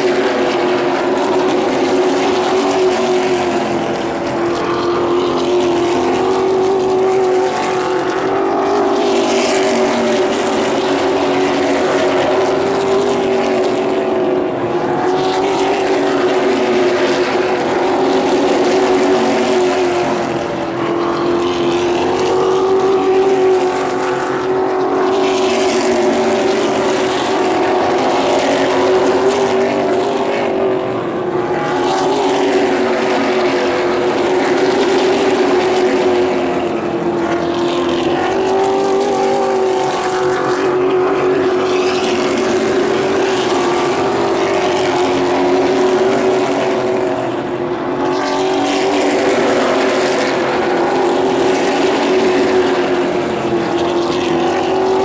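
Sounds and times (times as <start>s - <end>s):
race car engines droning: 0.0s - 55.0s.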